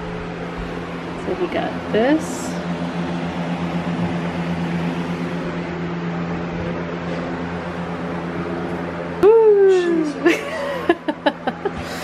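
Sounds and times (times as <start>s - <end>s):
box fan whirring: 0.0s - 12.0s
steady low hum: 0.0s - 12.0s.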